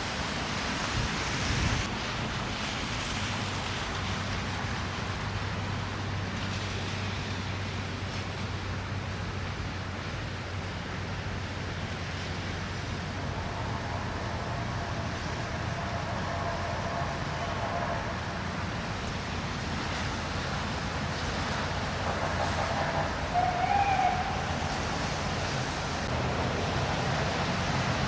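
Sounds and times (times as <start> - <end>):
vehicles passing on snowy roads: 0.0 - 28.0.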